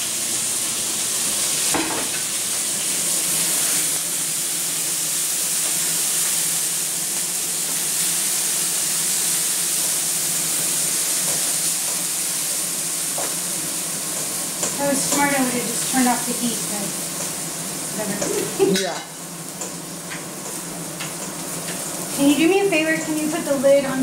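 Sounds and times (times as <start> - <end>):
chicken sizzling on a griddle: 0.0 - 24.0.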